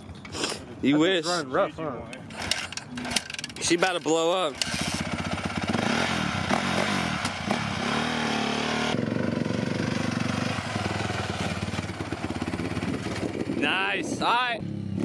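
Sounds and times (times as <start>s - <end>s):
dirt bike engine revving: 2.2s - 15.0s.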